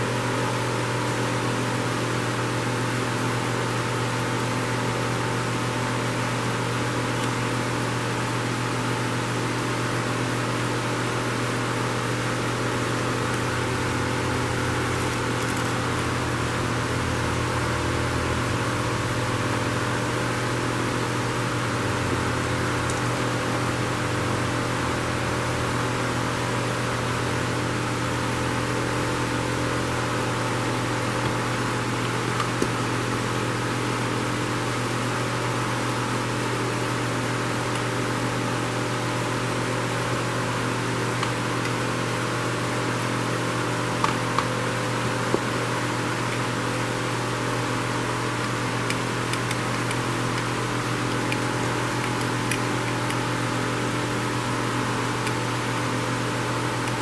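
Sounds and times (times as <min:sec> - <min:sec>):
fan humming: 0:00.0 - 0:57.0.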